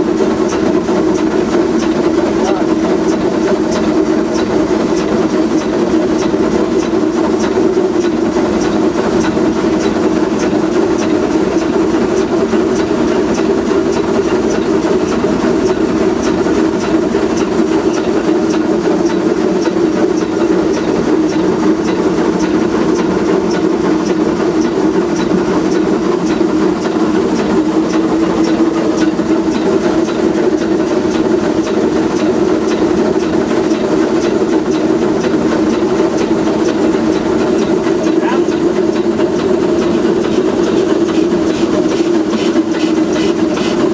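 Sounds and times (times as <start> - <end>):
steam locomotive din: 0.0 - 43.9
fast regular clicks: 0.4 - 43.9.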